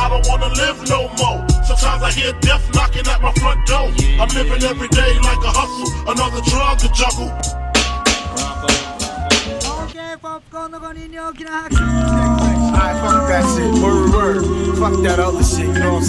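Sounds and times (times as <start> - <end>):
hip hop music with heavy bass: 0.0 - 10.4, 11.1 - 16.0.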